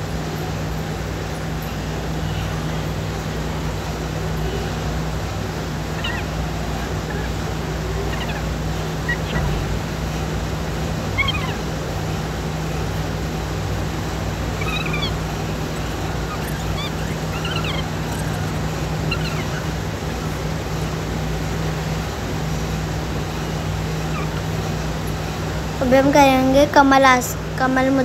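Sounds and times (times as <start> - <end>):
birds chirping: 0.1 - 28.0
steady low hum: 2.8 - 28.0.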